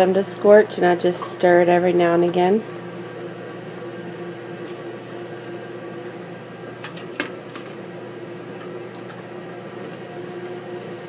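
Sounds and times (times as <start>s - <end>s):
kitchen appliance fan humming: 0.0s - 11.0s.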